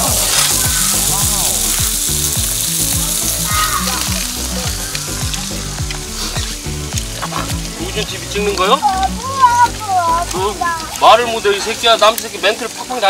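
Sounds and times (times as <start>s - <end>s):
background music with a beat: 0.0s - 11.1s
meat sizzling on a grill: 0.0s - 13.0s.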